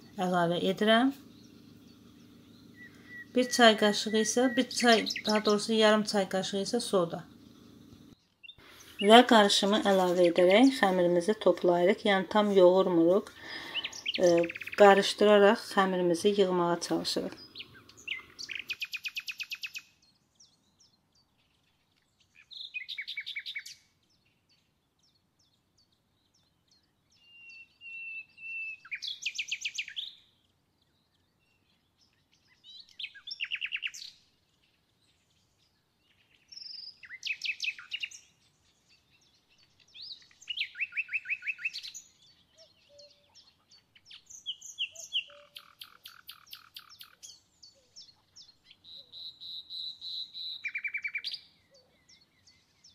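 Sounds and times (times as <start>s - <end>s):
songbird trilled phrases: 0.0s - 21.6s, 22.4s - 23.8s, 26.4s - 30.3s, 31.0s - 34.2s, 35.1s - 52.9s.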